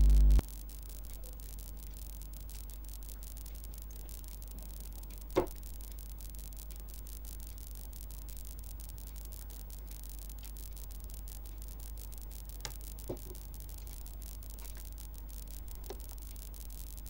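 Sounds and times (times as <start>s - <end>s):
faint hiss: 0.0s - 17.0s
low electrical hum: 0.0s - 17.0s
light clicks: 0.4s - 17.0s.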